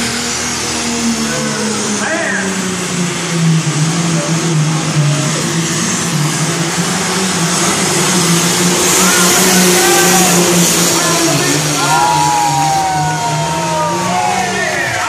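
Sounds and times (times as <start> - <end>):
diesel engine running loud: 0.0 - 15.0.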